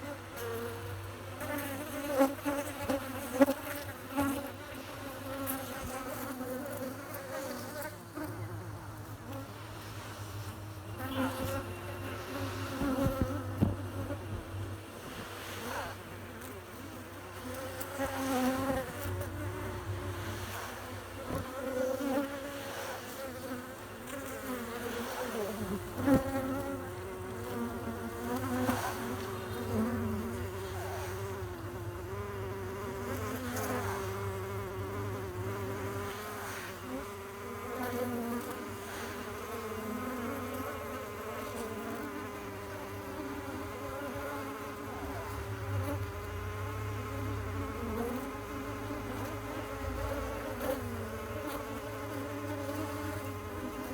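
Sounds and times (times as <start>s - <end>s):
bees buzzing: 10.6s - 53.9s.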